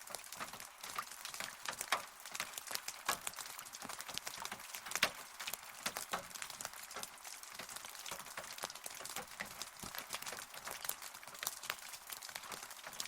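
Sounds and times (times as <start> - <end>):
raindrops ticking on hard surface: 0.0 - 13.0.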